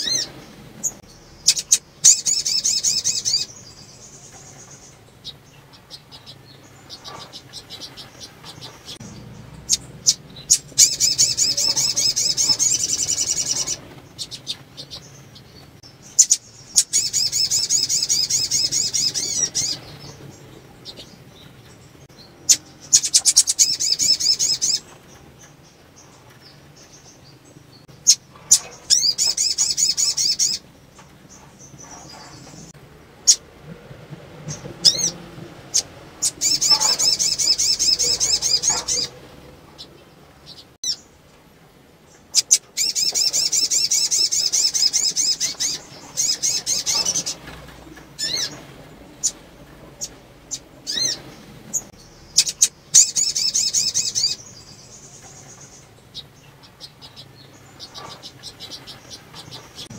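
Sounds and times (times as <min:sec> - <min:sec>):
bird trilling: 0:00.0 - 0:21.2, 0:22.2 - 0:24.9, 0:27.9 - 0:30.7, 0:31.3 - 0:33.4, 0:34.8 - 0:41.1, 0:42.3 - 0:47.5, 0:48.1 - 0:48.6, 0:50.0 - 0:59.9
bird chirps: 0:00.0 - 0:33.4, 0:34.5 - 0:41.2, 0:42.1 - 0:59.9.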